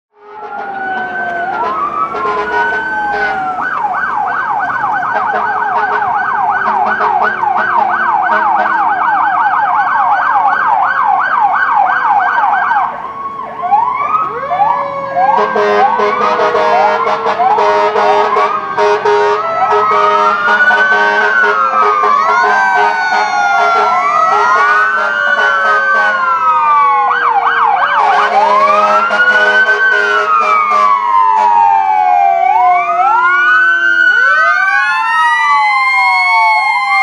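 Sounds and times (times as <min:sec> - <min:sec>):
two-tone siren: 0:00.1 - 0:37.0
wailing siren: 0:00.1 - 0:37.0
fast yelping siren: 0:00.2 - 0:37.0
low siren falling in pitch: 0:00.2 - 0:37.0.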